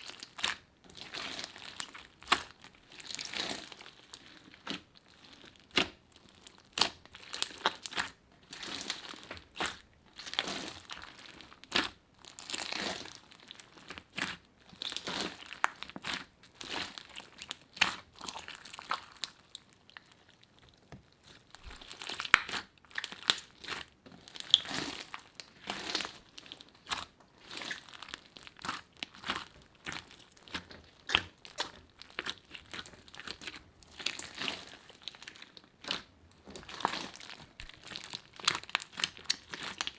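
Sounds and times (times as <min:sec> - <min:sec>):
slime squished by hand: 0:00.0 - 0:20.1, 0:21.2 - 0:39.9.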